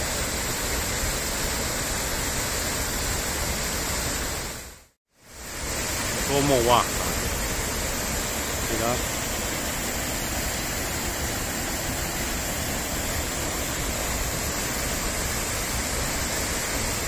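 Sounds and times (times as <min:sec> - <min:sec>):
waterfall rushing onto rocks: 0:00.0 - 0:17.0.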